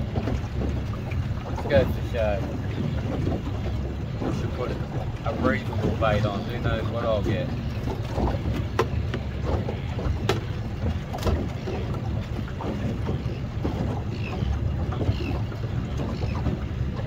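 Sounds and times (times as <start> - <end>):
choppy water against boat: 0.0 - 17.0
wind buffeting microphone: 0.0 - 17.0.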